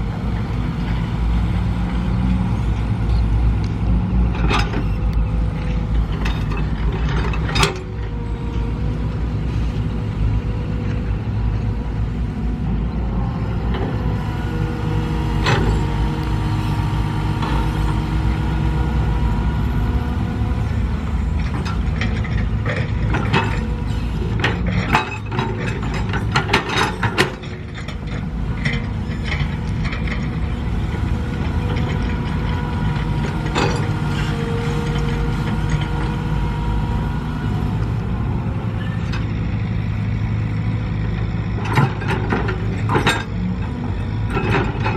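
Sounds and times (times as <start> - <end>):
diesel engine under load: 0.0 - 44.9.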